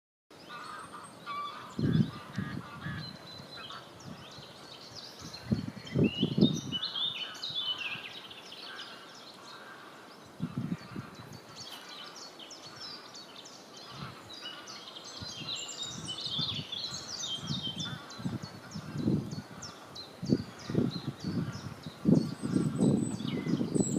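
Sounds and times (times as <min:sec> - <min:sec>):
songbirds chirping and trilling: 0:00.3 - 0:23.9.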